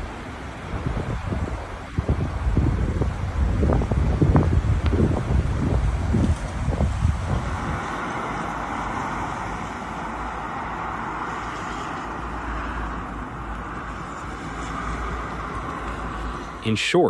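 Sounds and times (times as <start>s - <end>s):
road vehicle hiss and rumble: 0.0s - 17.0s.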